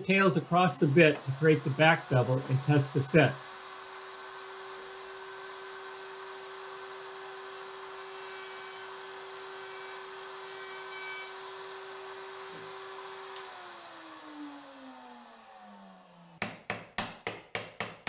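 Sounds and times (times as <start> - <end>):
router whining and hissing: 0.0 - 16.4.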